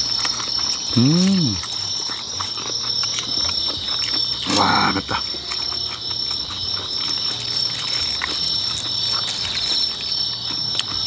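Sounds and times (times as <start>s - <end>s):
faint eating clicks and smacks: 0.0s - 11.0s
night insects chirping: 0.0s - 11.0s.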